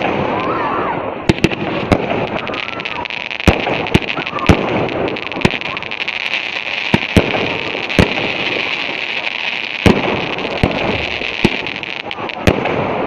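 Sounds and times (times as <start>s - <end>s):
continuous hiss: 0.0s - 13.0s
fireworks bangs: 0.0s - 13.0s.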